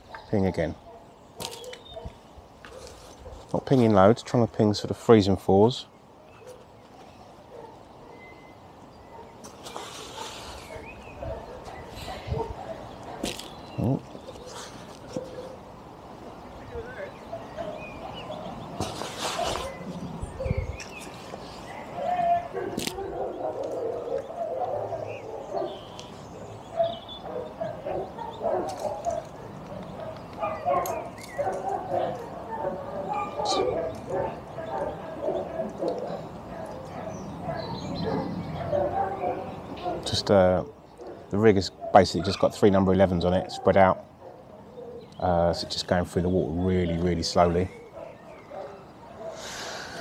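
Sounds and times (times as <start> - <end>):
bird chirping: 0.0 - 3.4, 5.5 - 50.0
distant dogs barking: 0.0 - 50.0.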